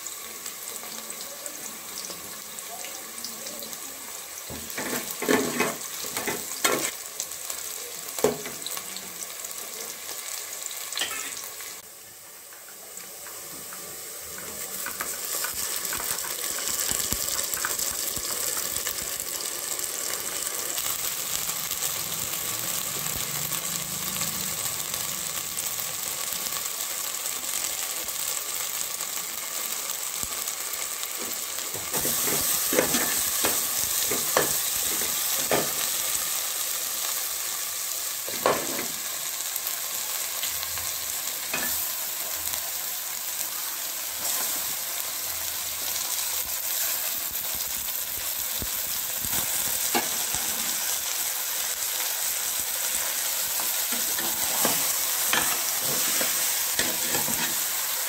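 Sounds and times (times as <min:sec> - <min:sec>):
food frying in hot oil: 0:00.0 - 0:58.0.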